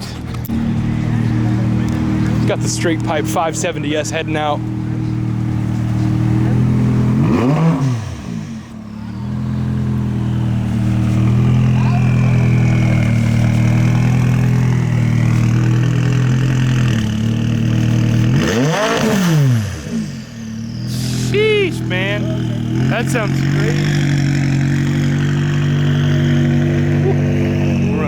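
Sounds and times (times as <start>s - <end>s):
sports car engine revving: 0.0s - 28.0s.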